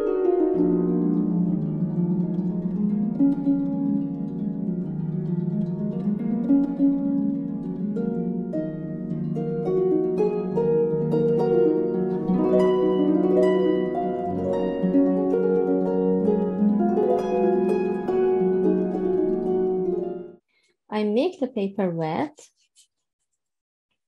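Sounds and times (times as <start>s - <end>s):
plucked harp-like string music: 0.0s - 20.4s.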